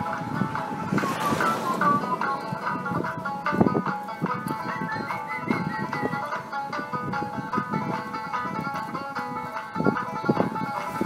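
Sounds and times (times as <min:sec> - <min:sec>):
banjo plucked notes: 0:00.0 - 0:11.0.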